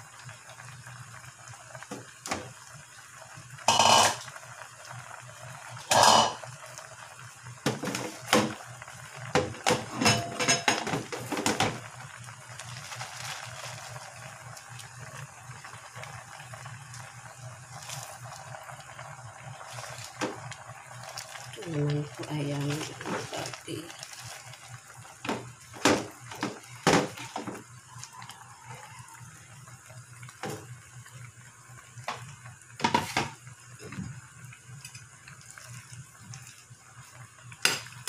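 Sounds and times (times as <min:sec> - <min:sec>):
pot bubbling on the boil: 0:00.0 - 0:38.0.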